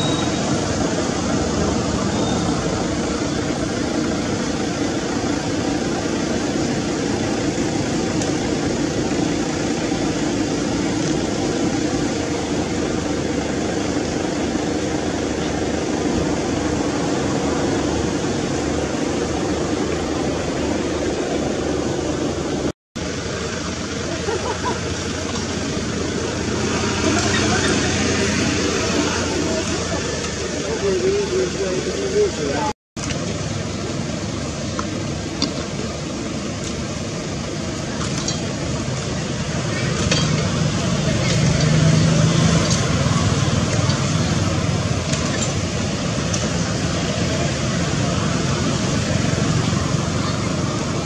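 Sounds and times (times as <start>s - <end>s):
steady rushing noise: 0.0s - 51.0s.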